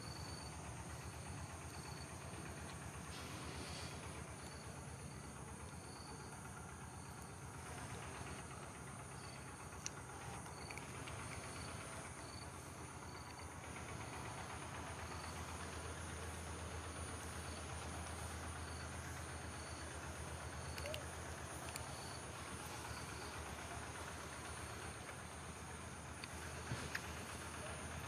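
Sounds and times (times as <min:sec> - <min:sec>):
high insect drone: 0:00.0 - 0:28.0
low steady rumble: 0:00.0 - 0:28.0.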